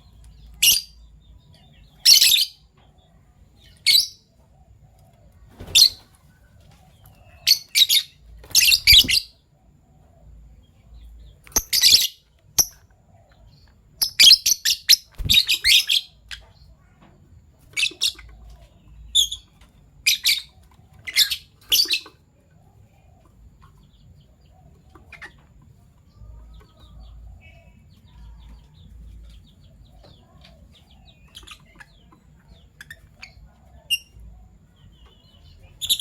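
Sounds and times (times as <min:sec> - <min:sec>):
lovebirds chattering chirps: 0:00.0 - 0:17.0, 0:17.6 - 0:36.0.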